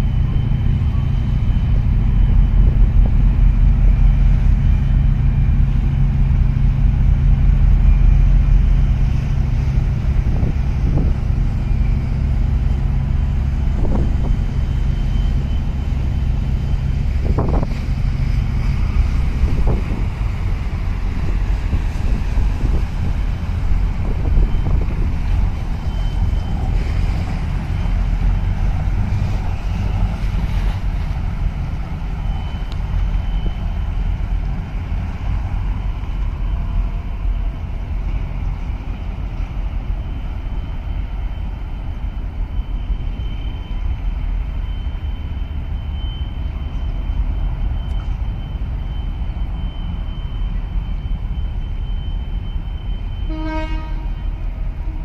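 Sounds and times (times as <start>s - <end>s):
boat diesel engine rumble: 0.0s - 55.0s.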